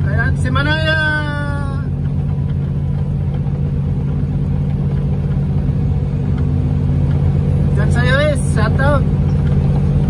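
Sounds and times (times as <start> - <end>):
vehicle engine and road drone: 0.0 - 10.0.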